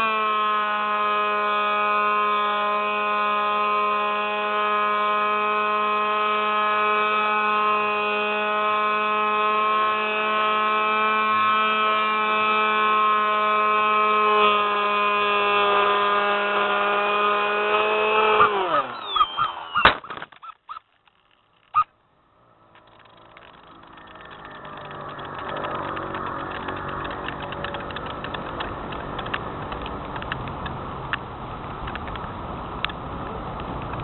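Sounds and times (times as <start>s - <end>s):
model plane motor whining: 0.0s - 30.7s
rough noisy hum: 0.0s - 34.0s.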